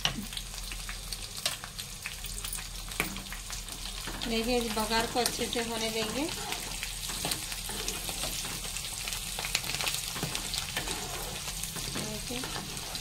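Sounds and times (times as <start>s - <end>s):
spices sizzling in hot oil: 0.0s - 13.0s
metal tongs stirring pan: 2.5s - 13.0s.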